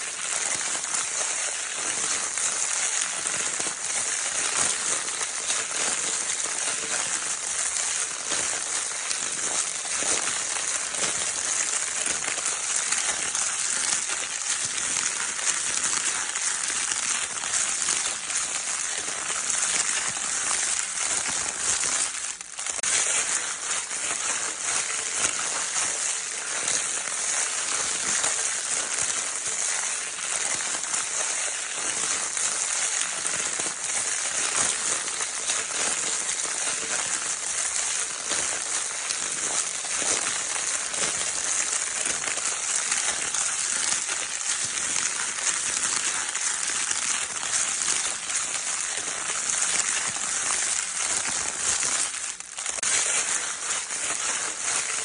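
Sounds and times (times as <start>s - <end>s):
crinkle paper rustling: 0.0s - 55.0s.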